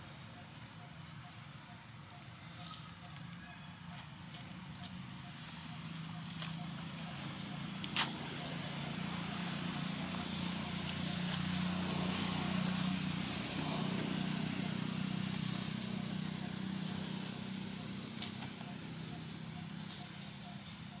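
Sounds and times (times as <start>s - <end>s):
motor engine humming: 3.9s - 21.0s.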